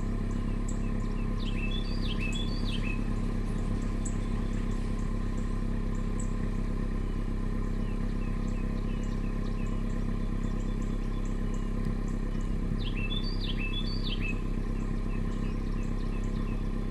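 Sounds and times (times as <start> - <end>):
birds chirping: 0.0 - 16.9
car engine idling: 0.0 - 16.9.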